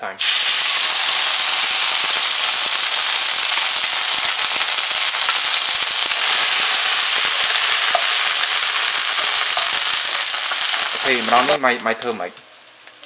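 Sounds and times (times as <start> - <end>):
food sizzling in hot oil: 0.1 - 13.0.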